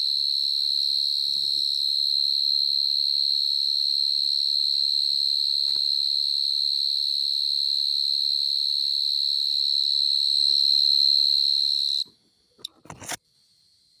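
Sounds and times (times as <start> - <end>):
cricket trilling: 0.0 - 12.8.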